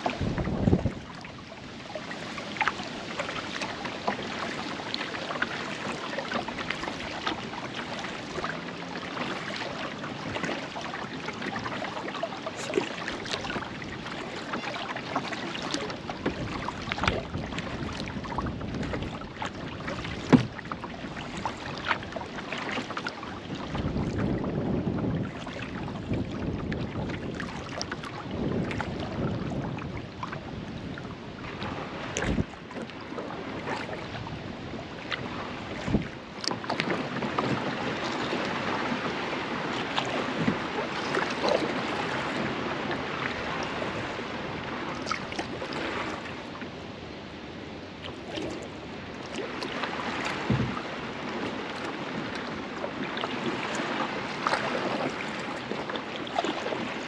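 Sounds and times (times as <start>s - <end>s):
water splashing off paddle: 0.0s - 46.9s, 48.0s - 57.0s.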